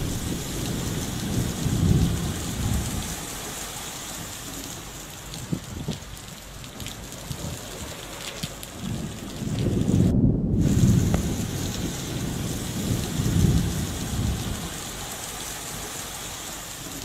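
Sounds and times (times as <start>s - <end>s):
gusty wind rumbles: 0.0s - 17.0s
heavy rain hissing: 0.0s - 17.0s.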